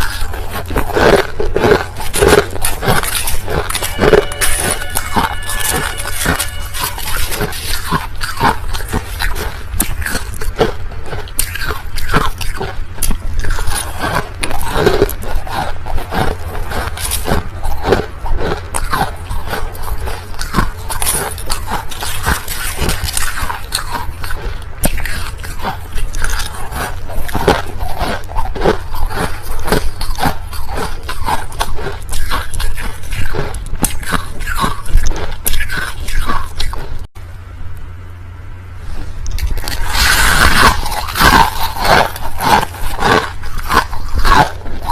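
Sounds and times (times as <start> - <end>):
crushed ice being chewed: 0.0 - 37.1, 38.8 - 44.9.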